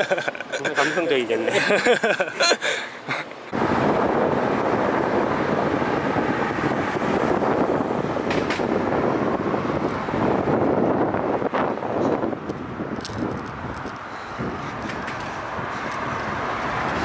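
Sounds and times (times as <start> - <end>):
wind and road noise rushing: 0.0 - 17.0.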